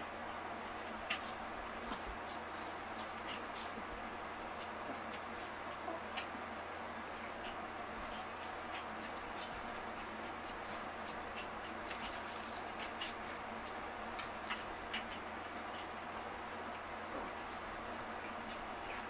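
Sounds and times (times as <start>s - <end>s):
dog paws scratching on blanket: 0.5s - 19.0s.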